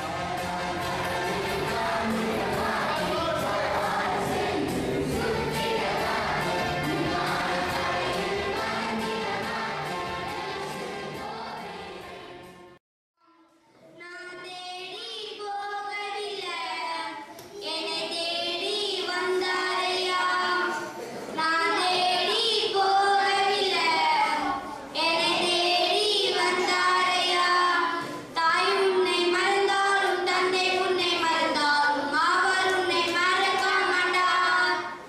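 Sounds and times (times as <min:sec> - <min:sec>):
children and adults singing: 0:00.0 - 0:12.8, 0:14.9 - 0:35.0
children singing into microphone: 0:00.0 - 0:12.8, 0:14.1 - 0:35.0.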